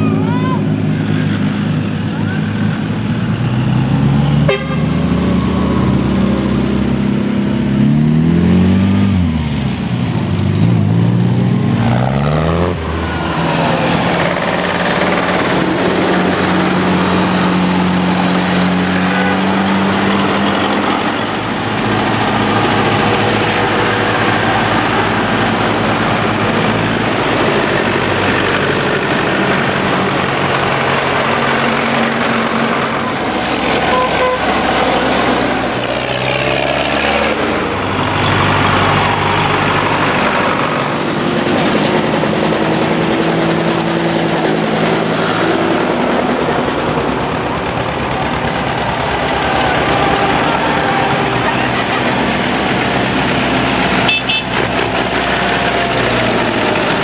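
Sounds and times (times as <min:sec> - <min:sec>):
old tractor engines driving past: 0:00.0 - 0:57.0.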